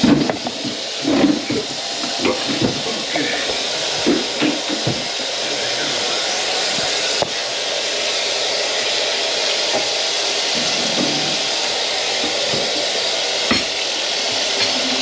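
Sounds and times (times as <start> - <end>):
rushing water hiss: 0.0 - 15.0.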